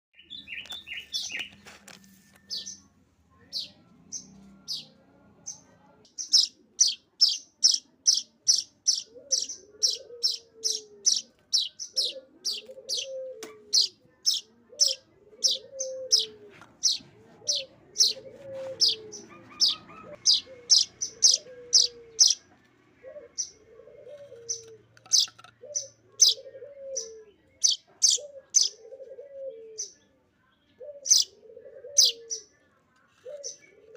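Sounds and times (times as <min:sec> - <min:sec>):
bird chicks begging chirps: 0:03.5 - 0:30.0, 0:30.8 - 0:32.6.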